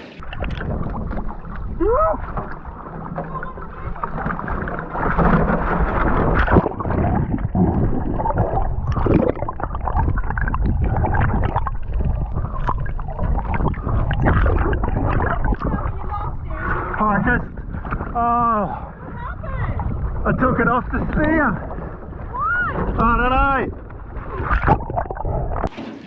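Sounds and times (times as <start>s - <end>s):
underwater water gurgling: 0.0s - 26.0s.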